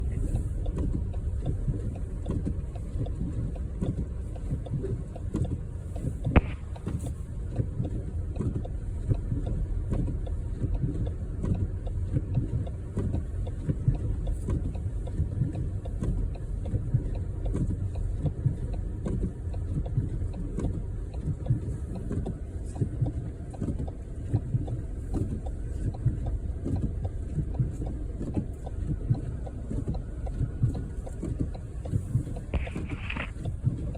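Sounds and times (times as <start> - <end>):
vehicle driving low rumble: 0.0 - 33.9.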